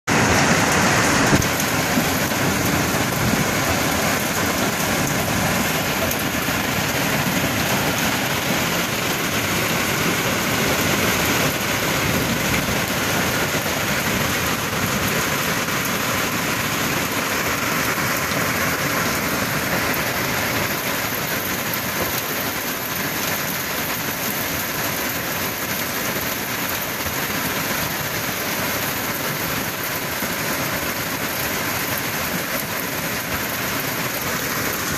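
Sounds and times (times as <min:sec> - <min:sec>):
heavy rain and hail pelting: 0:00.1 - 0:34.9.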